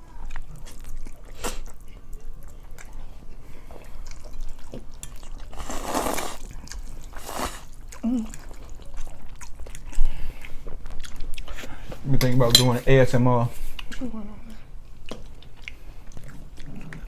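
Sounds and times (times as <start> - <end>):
chewing and mouth clicks: 0.1 - 11.9, 14.9 - 17.0.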